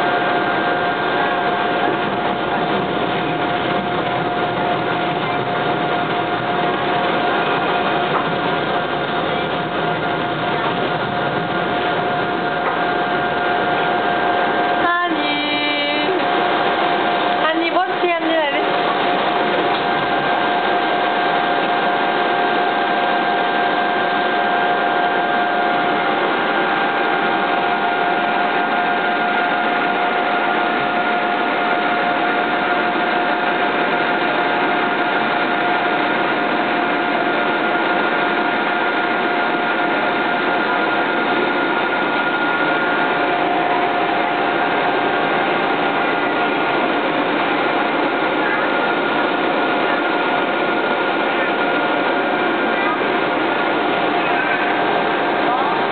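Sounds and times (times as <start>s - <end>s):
steady whine: 0.0s - 55.9s
train running: 0.0s - 55.9s.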